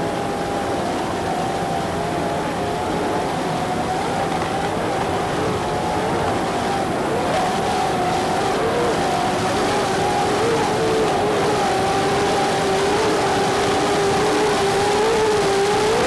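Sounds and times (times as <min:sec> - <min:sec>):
powerboat engines roaring: 0:00.1 - 0:16.0.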